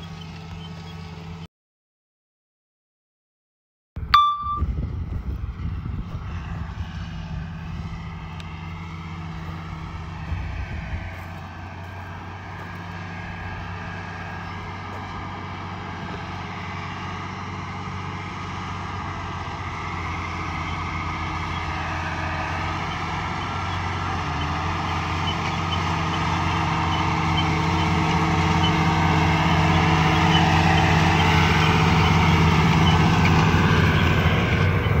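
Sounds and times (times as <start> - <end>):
tractor diesel engine running: 0.0 - 1.5, 4.0 - 35.0.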